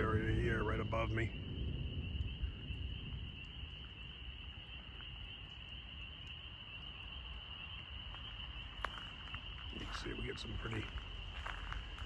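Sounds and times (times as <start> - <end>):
faint low rumble: 0.0 - 12.0
night insects buzzing: 0.0 - 12.0.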